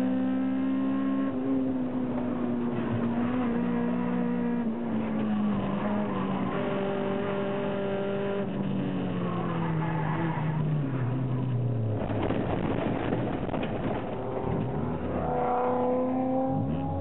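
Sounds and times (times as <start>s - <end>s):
car engine revving: 0.0s - 10.4s, 11.0s - 17.0s.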